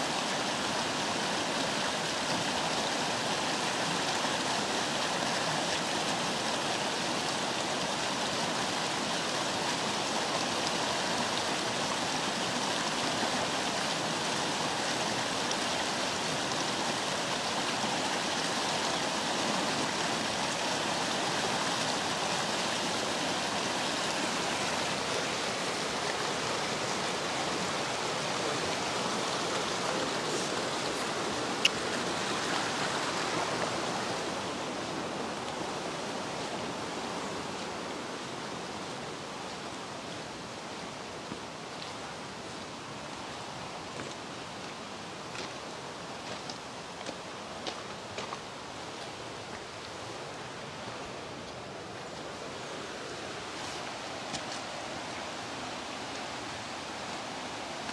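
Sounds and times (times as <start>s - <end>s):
river rapids rushing over rocks: 0.0s - 57.9s.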